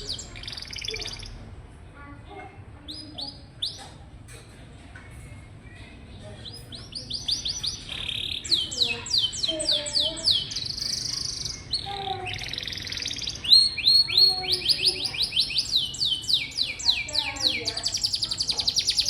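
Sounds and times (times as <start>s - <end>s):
canary singing: 0.0s - 1.4s, 2.8s - 4.0s, 5.7s - 19.0s.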